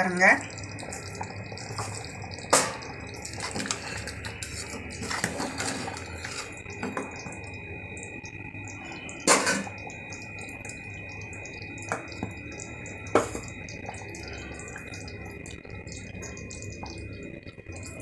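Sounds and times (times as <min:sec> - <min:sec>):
gravy bubbling: 0:00.0 - 0:18.0.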